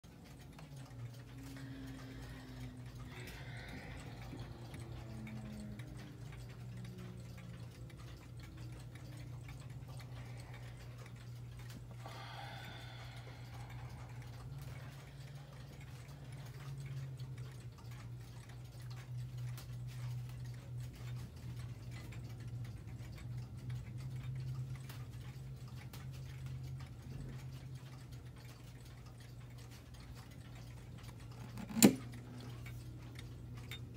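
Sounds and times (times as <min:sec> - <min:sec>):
pendulum clock ticking: 0:00.0 - 0:33.9
steady low hum: 0:00.0 - 0:33.9.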